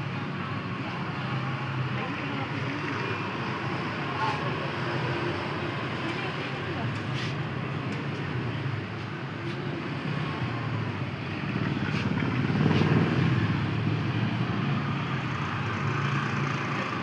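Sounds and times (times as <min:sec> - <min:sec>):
street noise: 0:00.0 - 0:17.0
vehicle engine running: 0:01.1 - 0:17.0.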